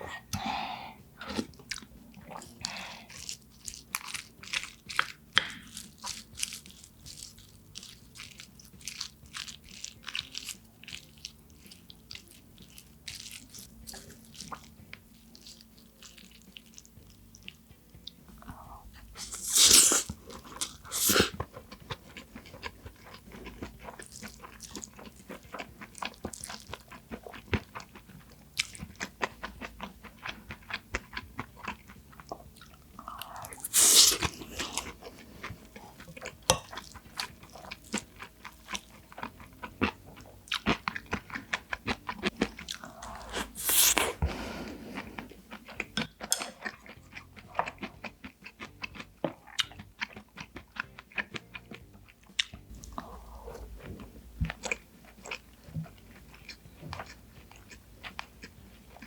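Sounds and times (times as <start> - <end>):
wet chewing and mouth clicks: 1.2 - 59.0.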